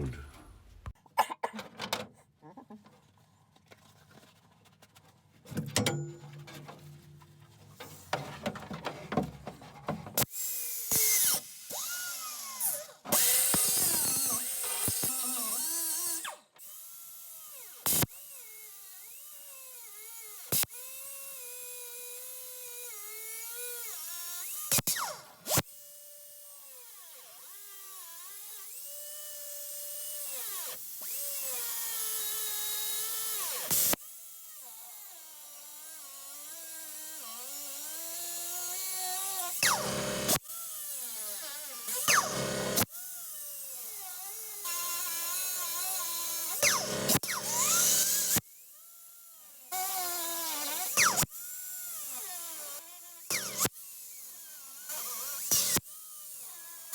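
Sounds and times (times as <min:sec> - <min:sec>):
power tool grinding metal: 0:10.2 - 0:56.9.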